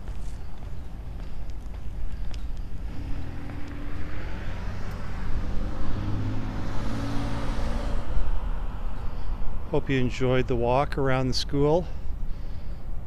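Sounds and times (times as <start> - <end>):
car passing: 0.4 - 12.8.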